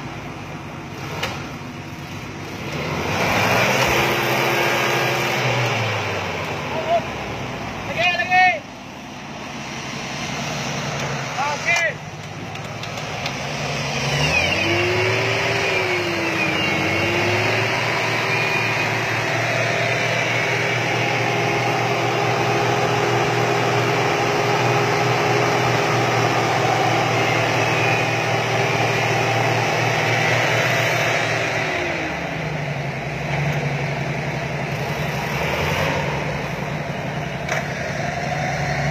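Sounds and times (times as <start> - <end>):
engine running at high revs: 0.0 - 8.2, 9.4 - 38.9.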